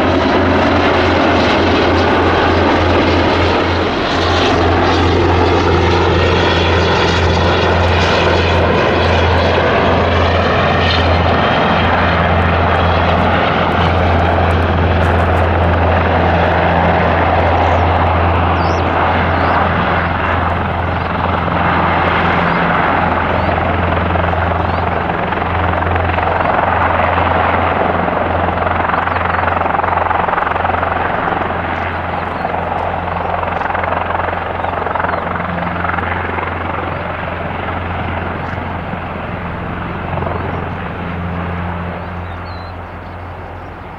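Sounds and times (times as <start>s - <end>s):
helicopter rotor beat: 0.0s - 43.9s
turbine whine: 0.0s - 43.9s.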